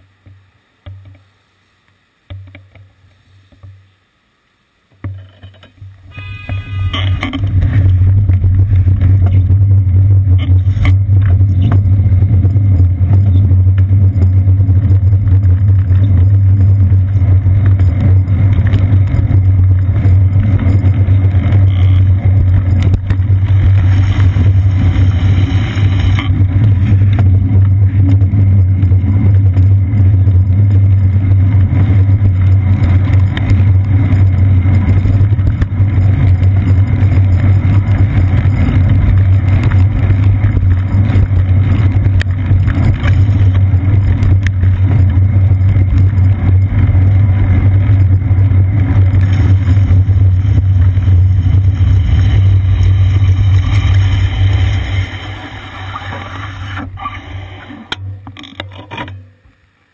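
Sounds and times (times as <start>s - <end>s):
bicycle tyres rumbling on pavement: 5.8s - 57.9s.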